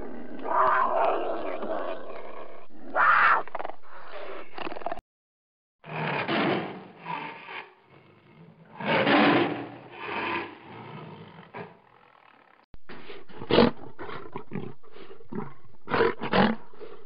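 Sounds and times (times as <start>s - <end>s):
lion grunting and roaring: 0.0s - 5.0s, 5.9s - 17.0s.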